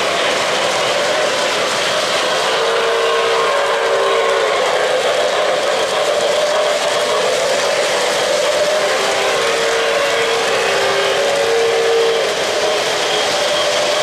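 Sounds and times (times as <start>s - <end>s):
model train wheels rolling on track: 0.0s - 14.0s.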